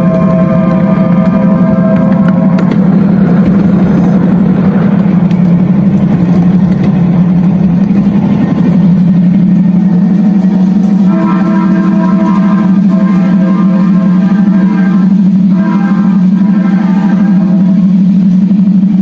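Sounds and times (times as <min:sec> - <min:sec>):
horn-like chord: 0:00.0 - 0:06.0, 0:09.0 - 0:18.6
simulated diesel engine: 0:00.0 - 0:19.0
wheel and track noise: 0:00.0 - 0:19.0.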